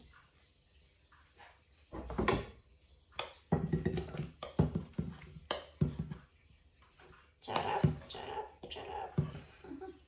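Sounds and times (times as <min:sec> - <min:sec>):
soft knocks and wet scrapes: 0:00.0 - 0:09.8.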